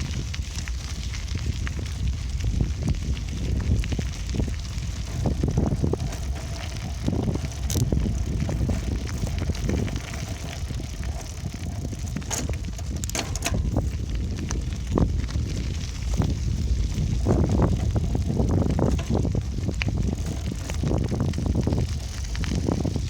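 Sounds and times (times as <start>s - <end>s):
bicycle rattles: 0.0s - 23.0s
bicycle tyres on road: 0.0s - 23.0s
wind buffeting microphone: 0.0s - 23.0s.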